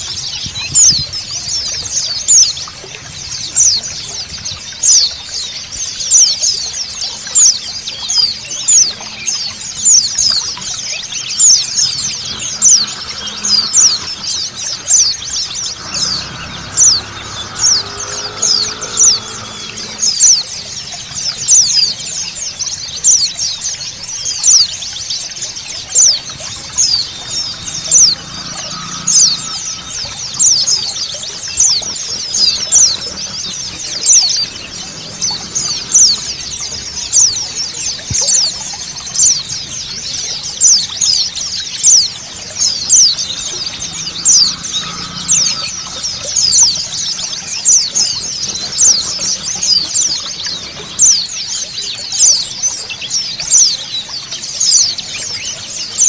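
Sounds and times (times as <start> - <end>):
flock of birds chirping: 0.0 - 56.0
running water hiss: 0.0 - 56.0.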